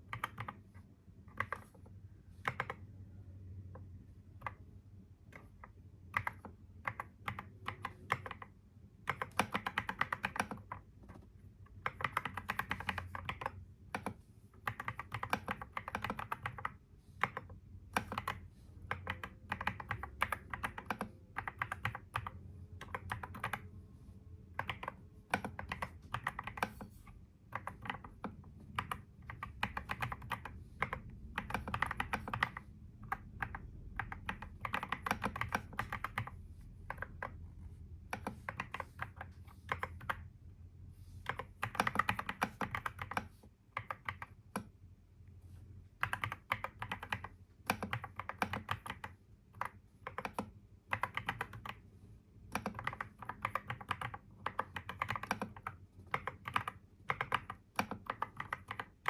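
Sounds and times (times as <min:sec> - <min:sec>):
keyboard typing clicks: 0:00.0 - 0:00.6, 0:01.3 - 0:02.9, 0:05.3 - 0:23.7, 0:24.5 - 0:40.3, 0:41.3 - 0:44.7, 0:46.0 - 0:51.8, 0:52.5 - 0:59.0
faint low hum: 0:00.0 - 0:59.0.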